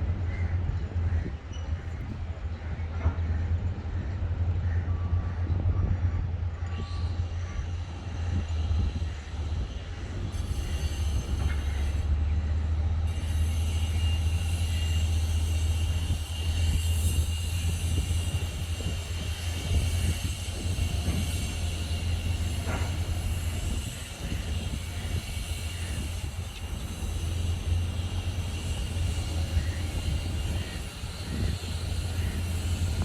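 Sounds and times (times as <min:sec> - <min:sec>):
low city rumble: 0:00.0 - 0:33.0.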